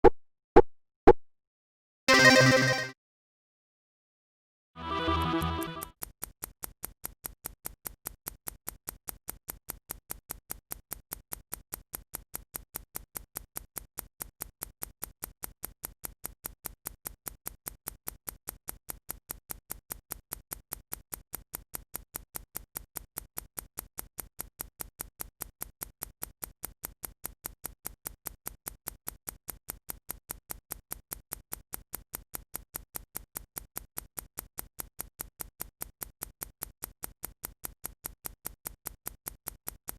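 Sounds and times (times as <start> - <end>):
clock ticking: 5.0 - 39.9.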